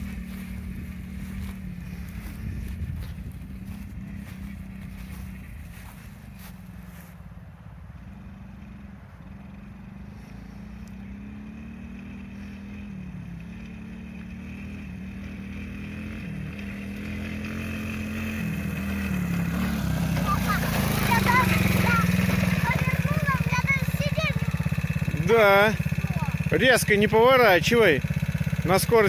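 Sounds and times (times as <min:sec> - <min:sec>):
small atv engine revving: 0:00.0 - 0:07.1, 0:08.1 - 0:29.0.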